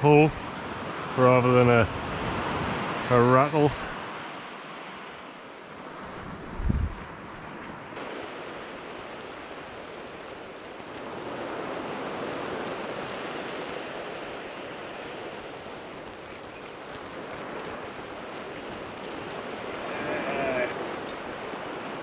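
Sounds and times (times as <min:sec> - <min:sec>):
sea surf washing on beach: 0:00.0 - 0:06.4, 0:08.0 - 0:22.0.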